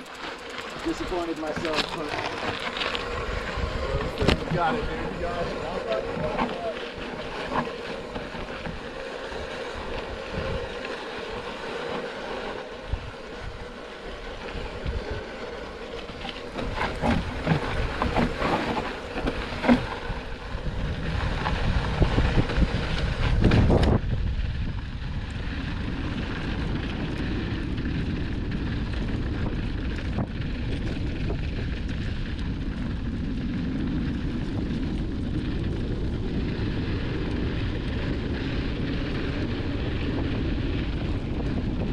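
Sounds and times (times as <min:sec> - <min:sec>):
bike tyre and frame rattle: 0:00.0 - 0:41.9
wind noise on microphone: 0:00.8 - 0:07.6, 0:08.2 - 0:11.5, 0:14.3 - 0:15.4, 0:16.1 - 0:41.9.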